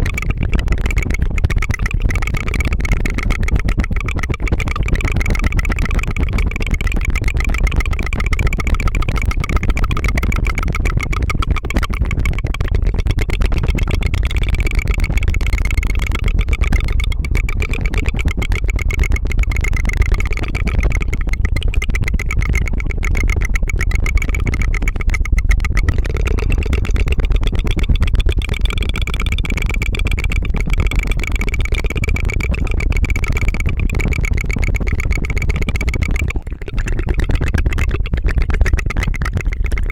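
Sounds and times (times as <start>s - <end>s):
tongue trill: 0.0s - 39.9s.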